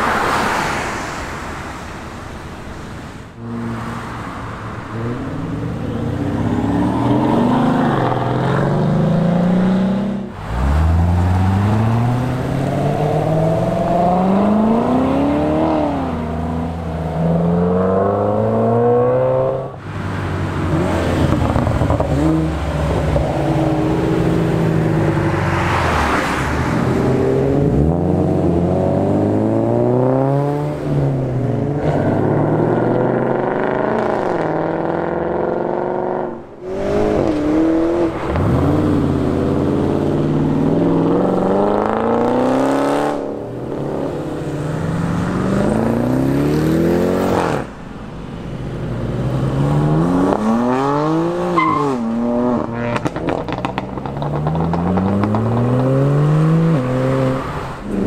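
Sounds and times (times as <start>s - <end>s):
car engines accelerating hard: 3.3s - 58.0s.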